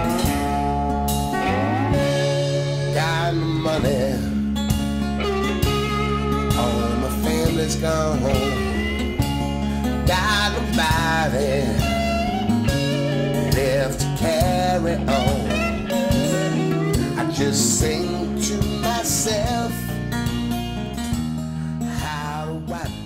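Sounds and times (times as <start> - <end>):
blues song with guitar: 0.0 - 23.0.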